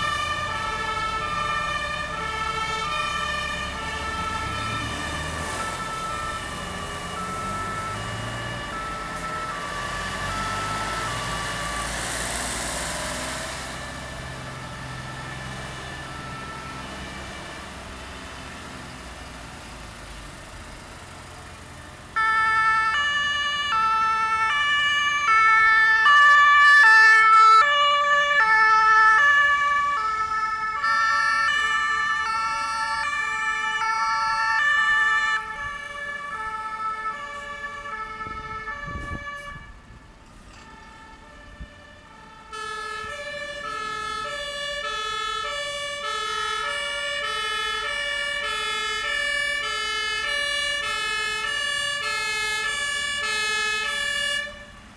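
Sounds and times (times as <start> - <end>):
two-tone emergency sirens: 0.0 - 20.2, 21.5 - 54.9.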